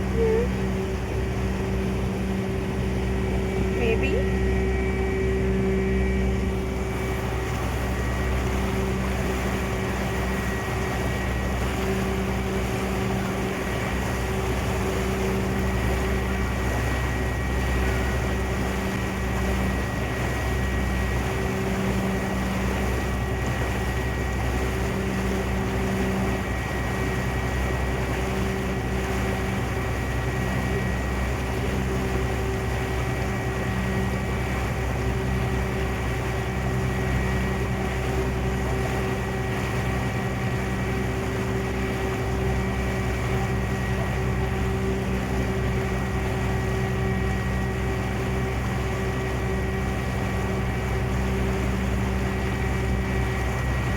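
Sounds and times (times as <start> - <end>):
ferry engine droning: 0.0 - 53.9.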